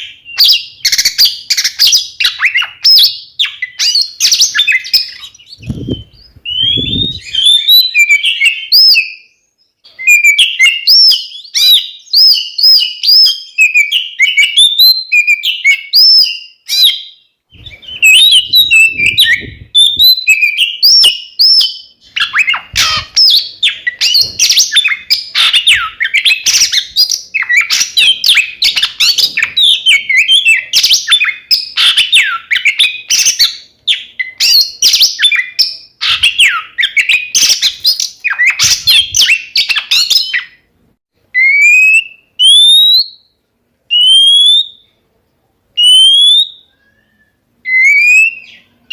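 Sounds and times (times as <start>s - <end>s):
birds singing: 0.0s - 45.0s, 45.8s - 48.9s.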